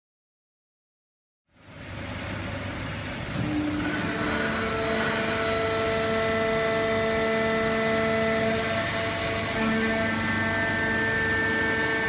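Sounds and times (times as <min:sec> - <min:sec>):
machine whine: 0:02.1 - 0:12.0
baler machine running: 0:02.3 - 0:12.0.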